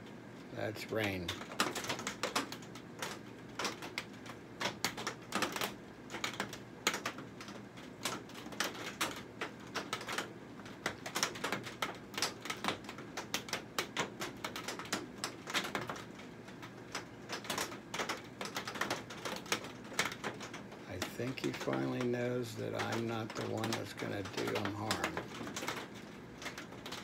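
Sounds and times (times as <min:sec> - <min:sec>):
raindrops tapping: 0:01.3 - 0:27.0.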